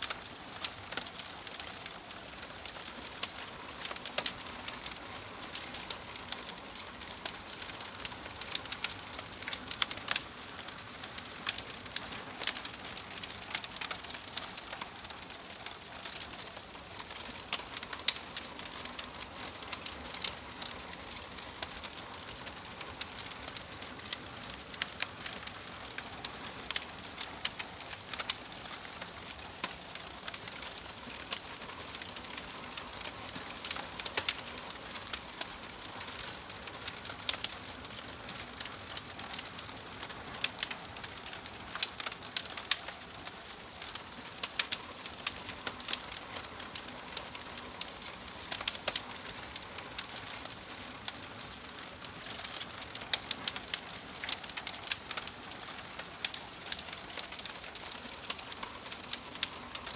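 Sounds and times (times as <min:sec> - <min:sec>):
soft fire hiss: 0:00.0 - 0:59.9
wood fire crackling and popping: 0:00.0 - 0:59.9.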